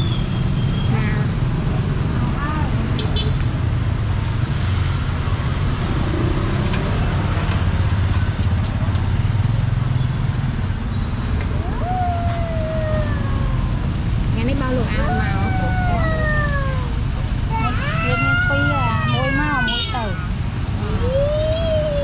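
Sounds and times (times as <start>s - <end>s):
traffic engine rumble: 0.0s - 22.0s.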